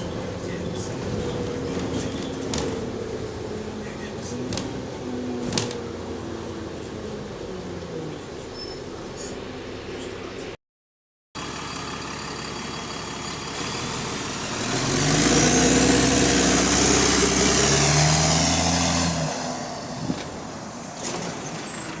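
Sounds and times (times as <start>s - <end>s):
bus engine under load: 0.0s - 10.6s, 11.4s - 22.0s.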